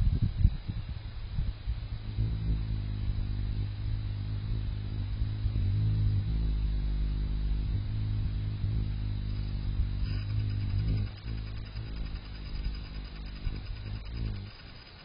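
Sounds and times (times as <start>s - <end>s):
hummingbird wings humming: 1.9s - 15.0s.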